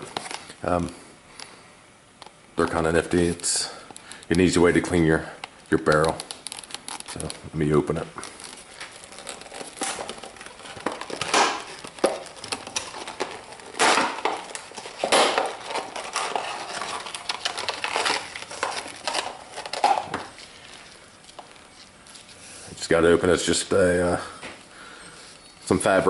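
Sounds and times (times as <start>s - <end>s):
packaging rustling and crinkling: 0.0s - 0.6s, 2.2s - 22.8s.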